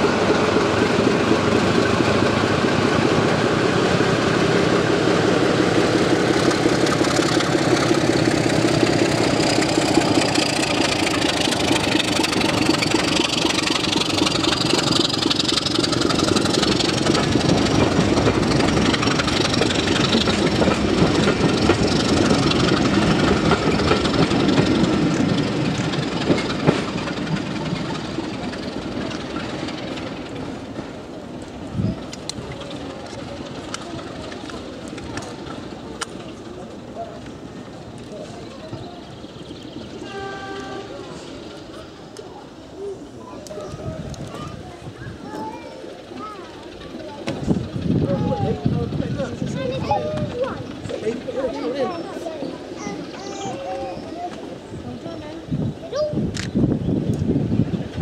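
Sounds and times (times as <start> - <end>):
coaches rolling on rails: 0.0 - 58.0
diesel locomotive engine under load: 0.0 - 58.0.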